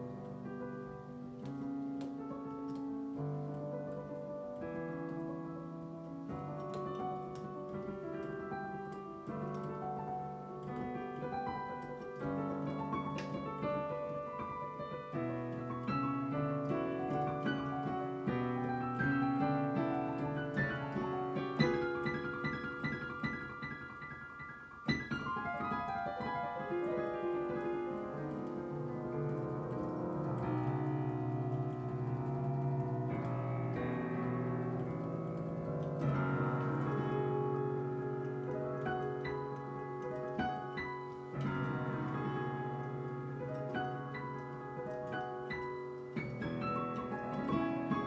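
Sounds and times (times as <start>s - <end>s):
digital piano playing: 0.0s - 48.0s.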